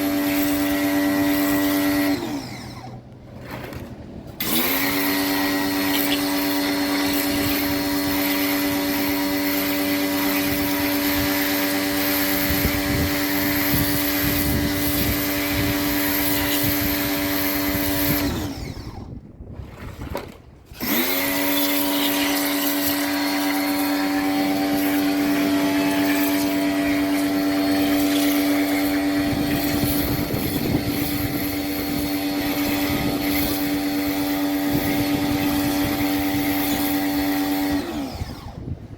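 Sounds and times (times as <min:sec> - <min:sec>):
electric motor whining: 0:00.0 - 0:19.3, 0:20.7 - 0:38.9.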